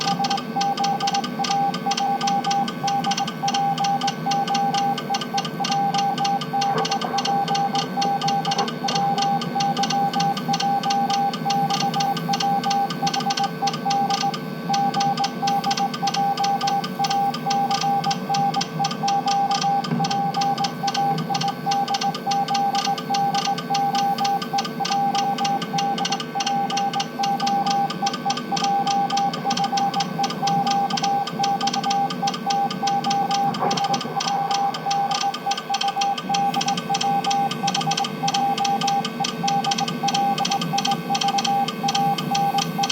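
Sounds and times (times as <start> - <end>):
morse code beeps: 0.0 - 42.9.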